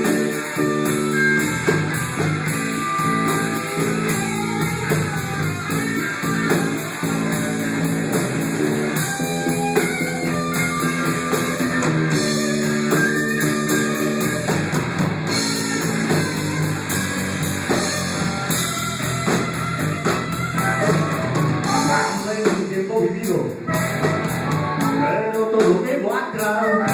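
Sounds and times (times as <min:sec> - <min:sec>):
live band playing instrumental: 0:00.0 - 0:26.9.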